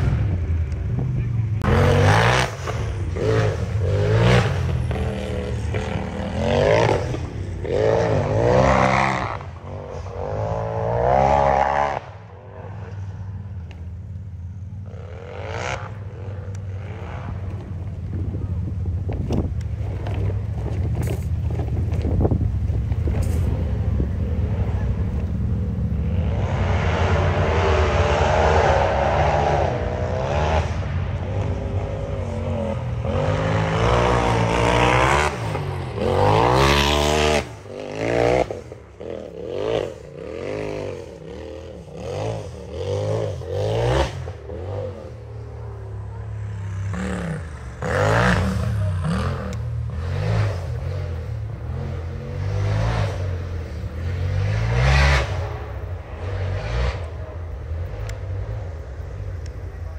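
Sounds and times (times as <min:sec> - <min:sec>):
buggy engine revving hard: 0:01.6 - 0:13.2, 0:14.8 - 0:17.7, 0:23.1 - 0:59.2.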